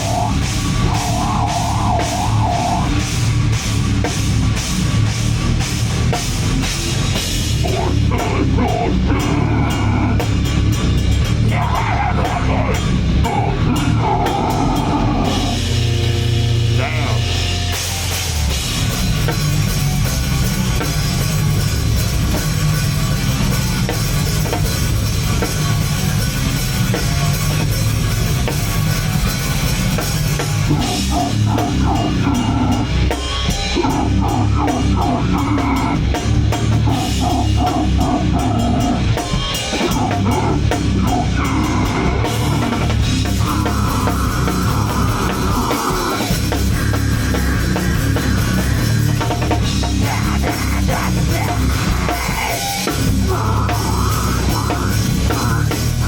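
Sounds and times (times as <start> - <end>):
drum kit: 0.0 - 56.0
heavy rock band playing live: 0.0 - 56.0.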